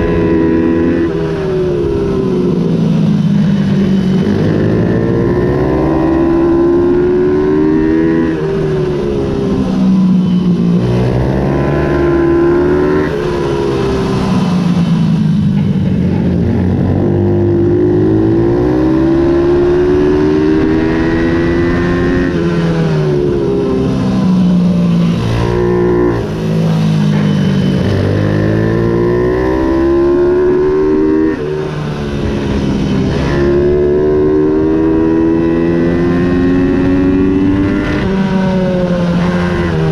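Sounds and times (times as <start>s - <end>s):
minibike engine racing: 0.0s - 39.9s.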